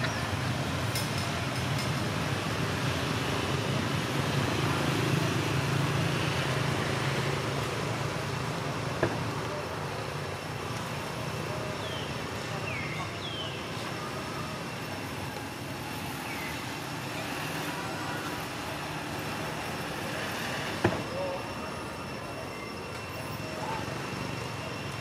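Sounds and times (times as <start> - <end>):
distant road traffic rumble: 0.0 - 25.0.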